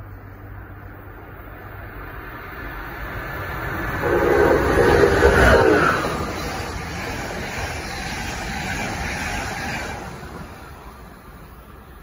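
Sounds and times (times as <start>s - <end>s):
electric locomotive passing: 0.0s - 12.0s
rush of passing train cars: 0.0s - 12.0s.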